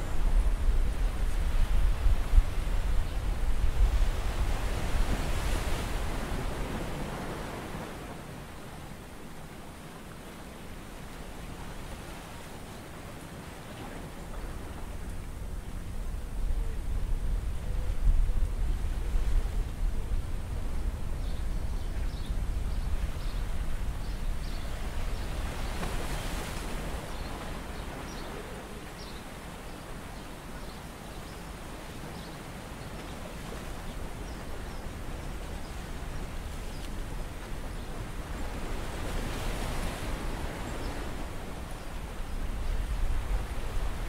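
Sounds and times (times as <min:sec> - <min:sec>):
wind rumble on microphone: 0:00.0 - 0:08.5, 0:13.8 - 0:29.2, 0:31.6 - 0:44.0.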